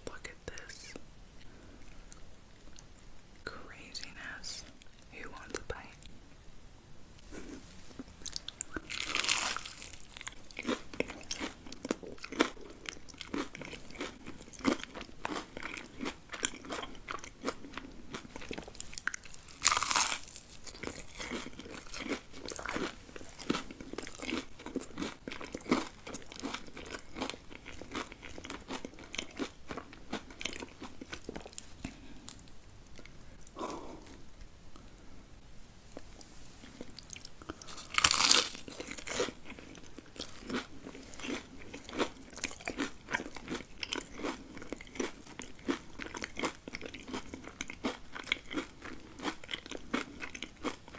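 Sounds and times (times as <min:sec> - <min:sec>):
person chewing crunchy food: 0:07.2 - 0:34.2, 0:35.9 - 0:50.9.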